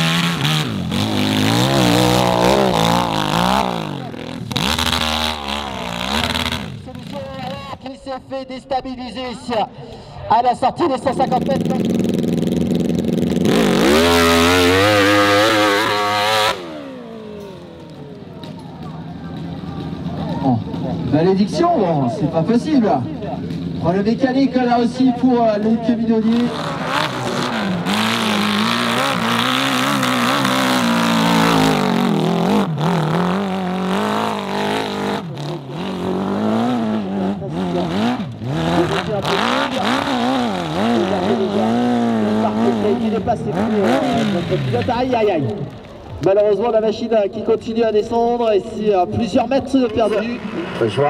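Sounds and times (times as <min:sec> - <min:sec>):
dirt bike engine revving: 0:00.0 - 0:07.9, 0:11.0 - 0:45.8.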